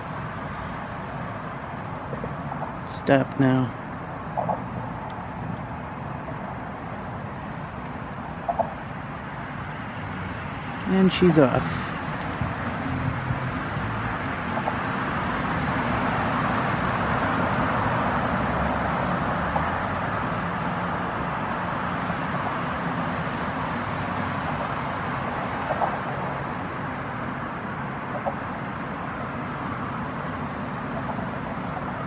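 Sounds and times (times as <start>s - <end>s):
road traffic noise: 0.0s - 32.0s.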